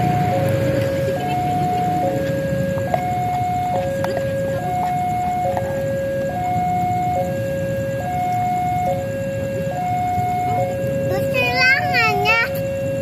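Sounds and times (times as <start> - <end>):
level crossing two-tone alarm: 0.0 - 13.0
road traffic rumble: 0.0 - 13.0.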